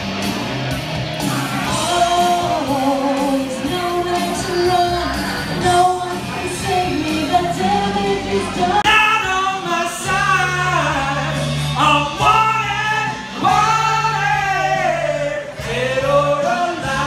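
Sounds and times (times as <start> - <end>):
pop song with sung vocals: 1.2 - 17.0.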